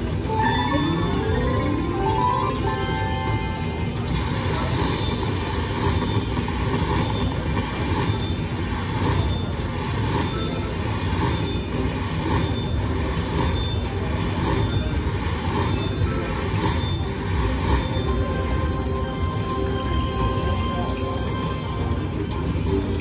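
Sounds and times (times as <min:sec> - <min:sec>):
steady rushing din: 0:00.0 - 0:23.0
slot machine bright hits: 0:00.3 - 0:22.6.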